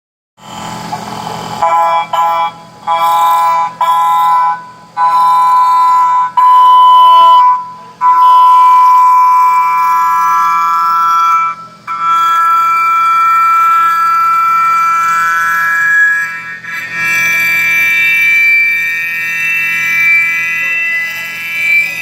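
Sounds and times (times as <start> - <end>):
milling machine high squeal: 0.4 - 22.0.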